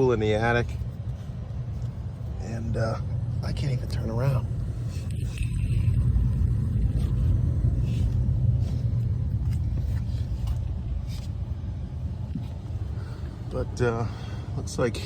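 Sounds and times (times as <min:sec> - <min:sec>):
blower fan rumbling: 0:00.0 - 0:15.0.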